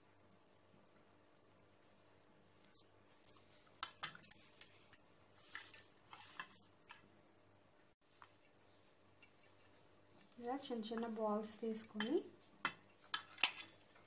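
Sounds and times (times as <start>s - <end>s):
hand working dough in metal bowl: 0.0s - 7.1s, 8.0s - 14.0s.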